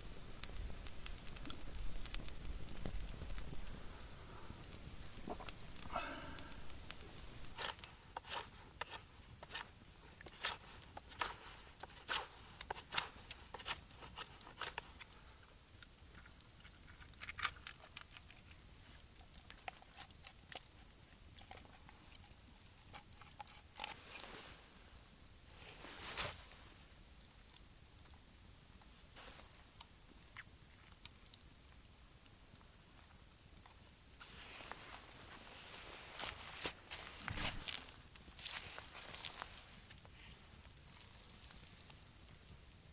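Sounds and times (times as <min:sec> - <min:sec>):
soft rustle: 0:00.2 - 0:31.5, 0:33.0 - 0:42.7.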